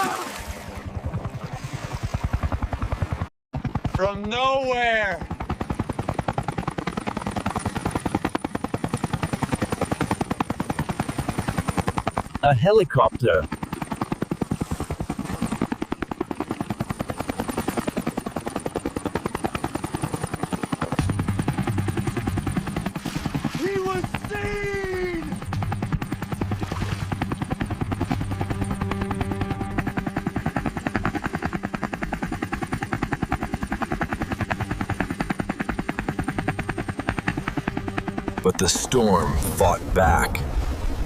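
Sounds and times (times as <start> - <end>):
helicopter rotor beating: 0.4 - 40.6.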